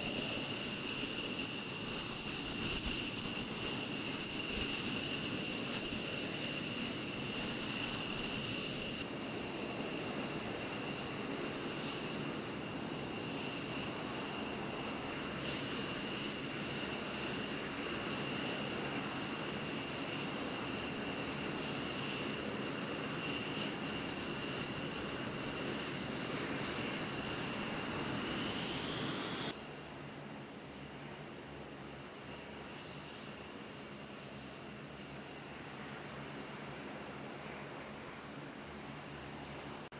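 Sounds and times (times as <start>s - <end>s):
jet engines idling with high whine: 0.0s - 39.9s.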